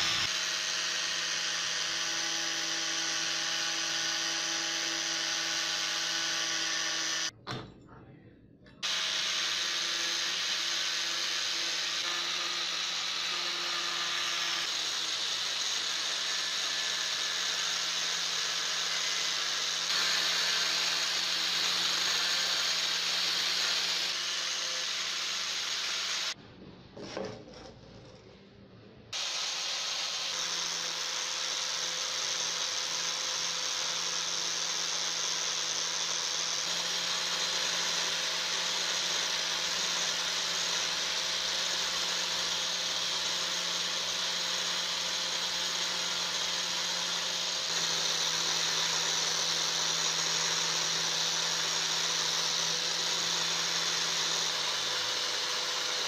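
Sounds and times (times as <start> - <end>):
angle grinder motor whine: 0.0 - 7.3, 8.8 - 26.4, 29.2 - 56.0.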